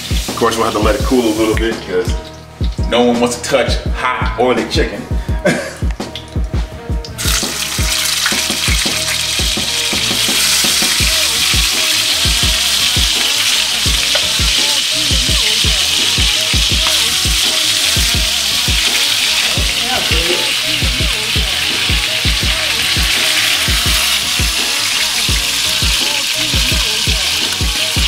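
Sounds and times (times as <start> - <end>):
chicken sizzling in frying pan: 0.0 - 2.9, 7.1 - 28.0.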